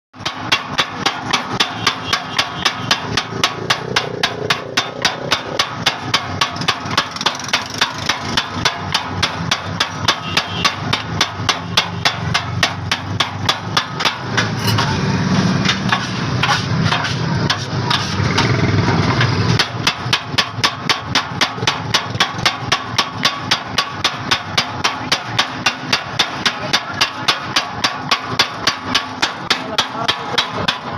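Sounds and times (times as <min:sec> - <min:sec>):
rapid knocking: 0:00.2 - 0:15.0, 0:15.6 - 0:30.9.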